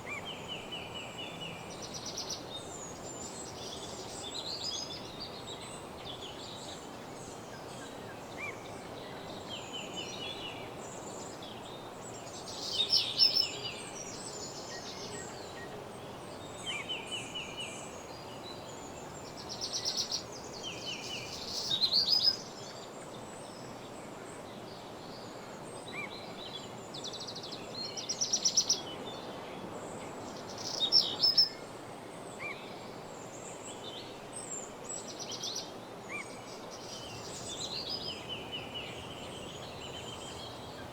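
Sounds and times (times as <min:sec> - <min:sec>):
songbirds singing: 0:00.0 - 0:31.6, 0:32.4 - 0:40.9
steady background hiss: 0:00.0 - 0:40.9.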